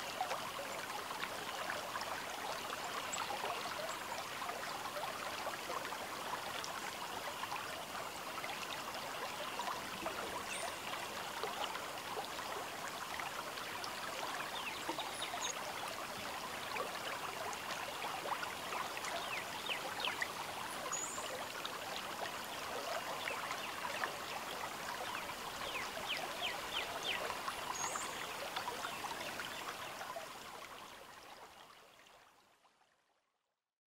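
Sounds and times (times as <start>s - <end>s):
river water trickling: 0.0s - 32.9s.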